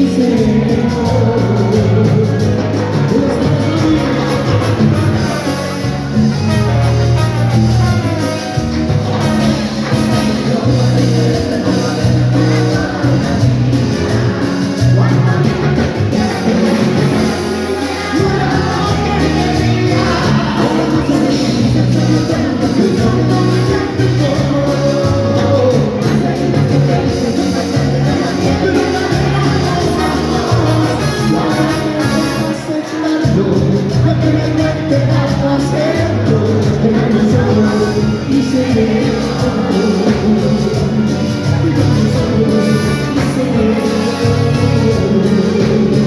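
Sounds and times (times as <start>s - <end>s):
bass beat: 0.0s - 46.0s
cumbia band playing: 0.0s - 46.0s
man singing: 0.0s - 46.0s.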